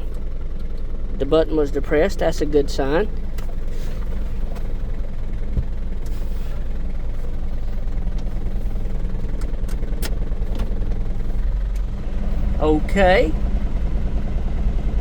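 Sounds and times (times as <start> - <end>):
ac compressor cycling: 0.0 - 15.0
diesel engine idling: 0.0 - 15.0.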